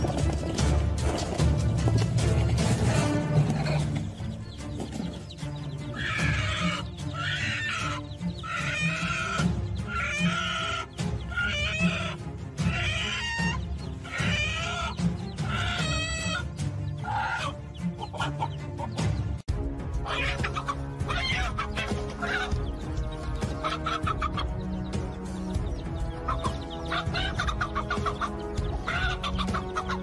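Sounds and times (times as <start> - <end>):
background music: 0.0 - 30.0
hen squawking alarm calls: 2.8 - 19.2, 20.0 - 30.0.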